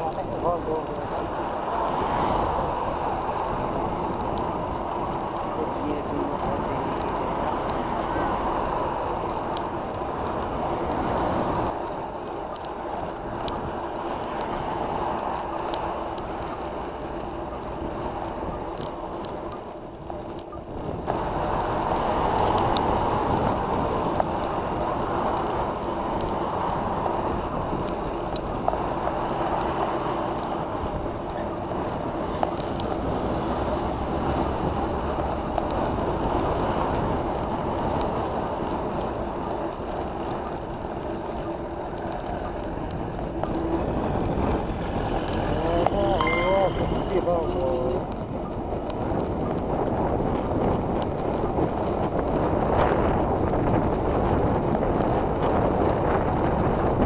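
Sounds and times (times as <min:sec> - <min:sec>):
wind on microphone: 0:00.0 - 0:46.2, 0:46.8 - 0:57.0
road noise: 0:00.0 - 0:57.0.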